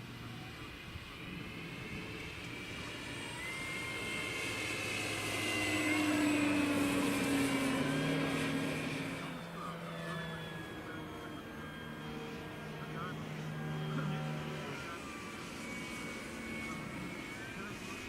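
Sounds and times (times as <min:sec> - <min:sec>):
electric motor and propeller whining: 0:00.0 - 0:18.0.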